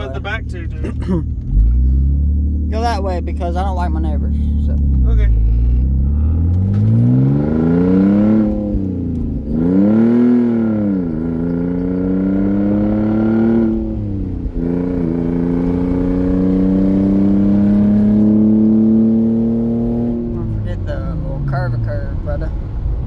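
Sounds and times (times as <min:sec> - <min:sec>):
car exhaust accelerating: 0:00.0 - 0:23.0.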